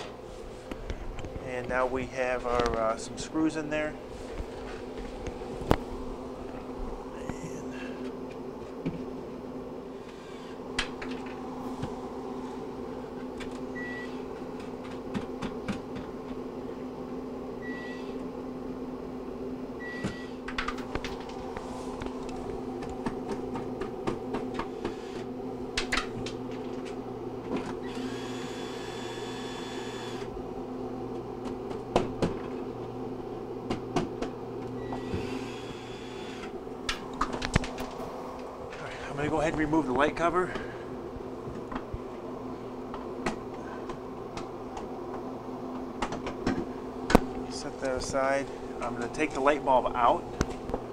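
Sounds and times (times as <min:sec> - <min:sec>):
refrigerator hum: 0:00.0 - 0:50.9.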